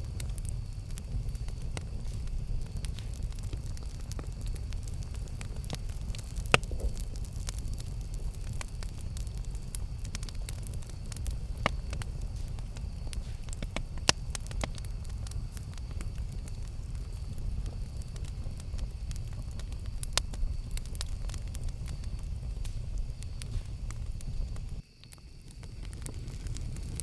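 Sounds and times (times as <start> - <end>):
campfire burning rumble: 0.0 - 27.0
fire crackles and pops: 0.0 - 27.0.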